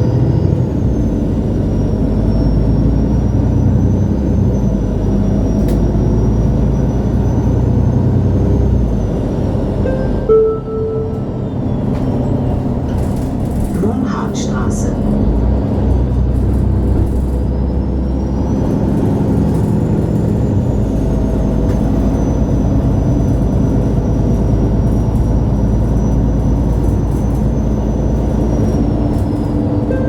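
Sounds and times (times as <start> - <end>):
bus engine and running noise: 0.0 - 30.0.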